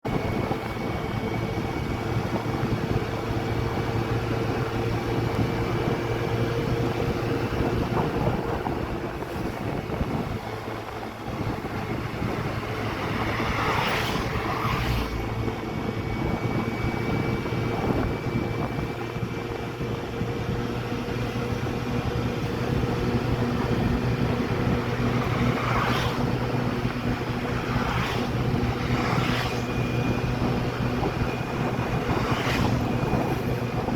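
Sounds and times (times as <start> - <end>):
motorcycle engine cruising: 0.0 - 33.9
wind and road noise: 0.0 - 33.9.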